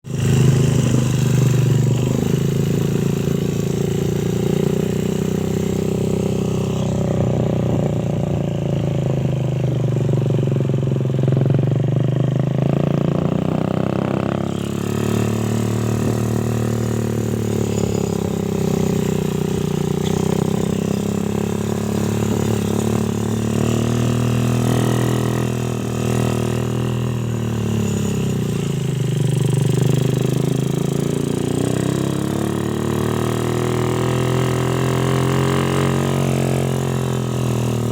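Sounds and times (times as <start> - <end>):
motorcycle engine idling: 0.1 - 35.3.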